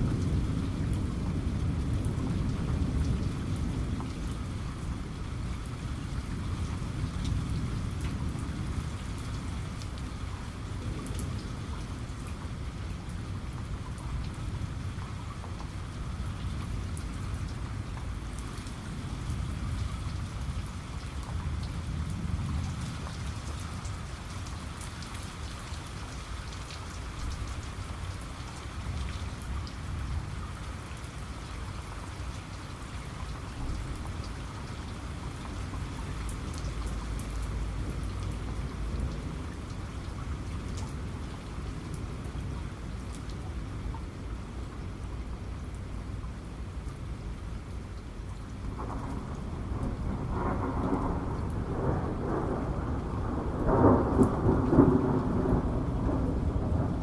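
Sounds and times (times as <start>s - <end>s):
low rumble of thunder: 0.0s - 57.0s
raindrops ticking on a surface: 0.0s - 57.0s
steady rain: 0.0s - 57.0s.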